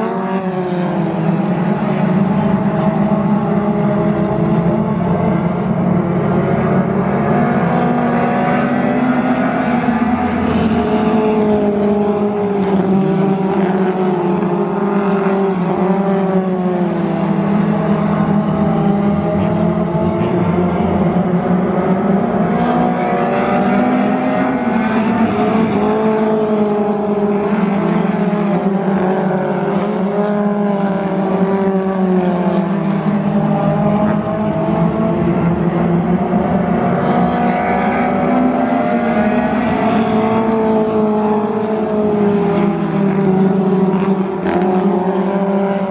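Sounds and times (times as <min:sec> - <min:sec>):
stock car engines racing: 0:00.0 - 0:45.9.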